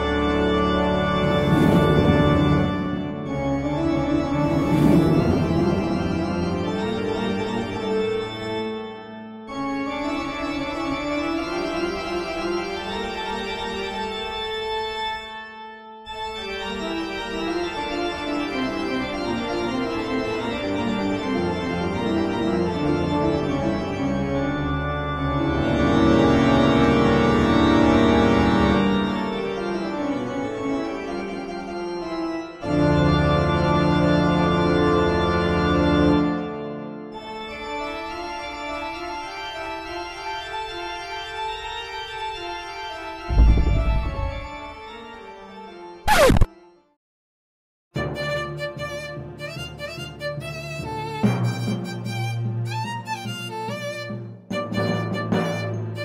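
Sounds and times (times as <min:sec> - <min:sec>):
organ chords: 0:00.0 - 0:46.8.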